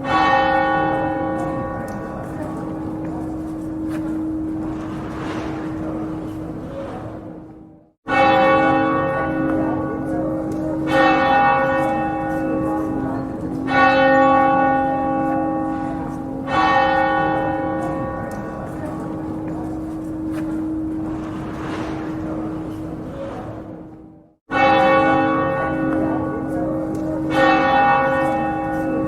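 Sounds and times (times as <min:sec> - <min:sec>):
church bell tolling: 0:00.0 - 0:29.0.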